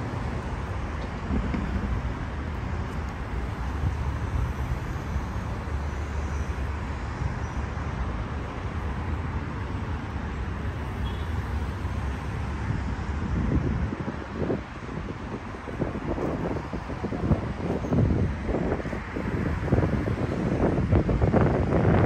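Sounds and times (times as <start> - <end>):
busy road traffic rumble: 0.0 - 22.0.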